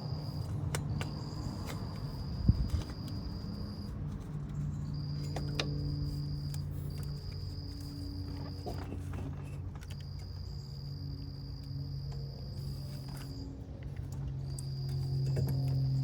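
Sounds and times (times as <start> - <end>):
insects trilling: 0.0 - 13.7.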